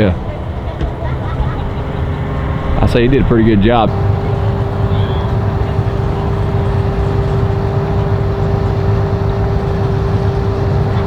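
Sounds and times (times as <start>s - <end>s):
engine droning with whine: 0.0s - 11.0s.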